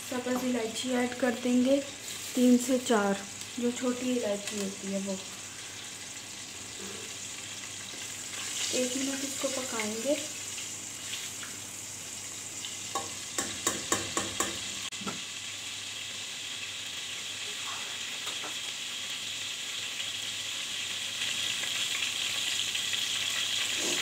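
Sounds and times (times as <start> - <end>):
spices sizzling in hot oil: 0.0 - 24.0.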